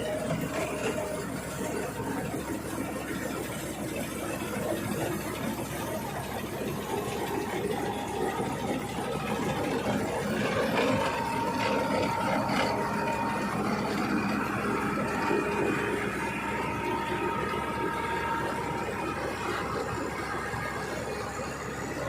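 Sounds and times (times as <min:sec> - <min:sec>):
combine harvester running: 0:00.0 - 0:22.0
thin steady whine: 0:00.0 - 0:22.0.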